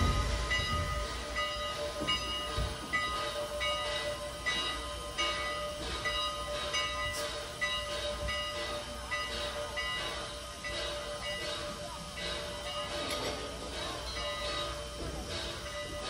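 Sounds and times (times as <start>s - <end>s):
locomotive chuffing: 0.0s - 16.0s
steam locomotive hissing: 0.0s - 16.0s.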